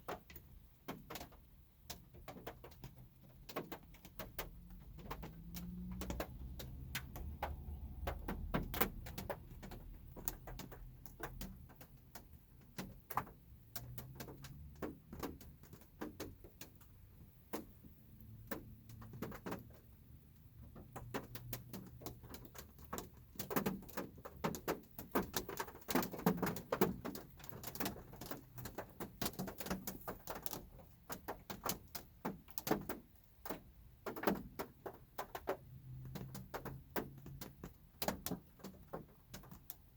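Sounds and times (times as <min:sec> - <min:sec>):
rain tapping on car roof: 0:00.0 - 0:39.9.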